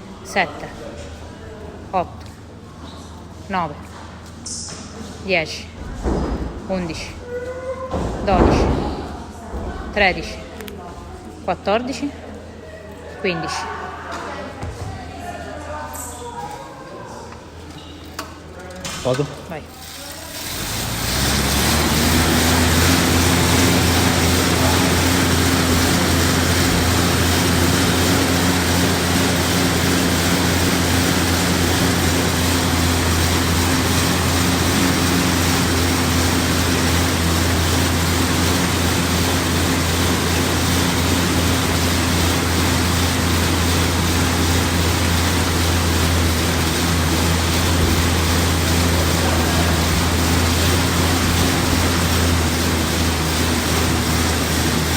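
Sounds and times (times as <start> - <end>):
fan flywheel whirring: 0.0 - 54.9.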